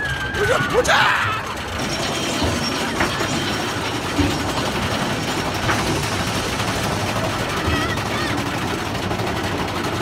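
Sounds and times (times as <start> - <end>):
roller coaster rattling on track: 0.0 - 10.0.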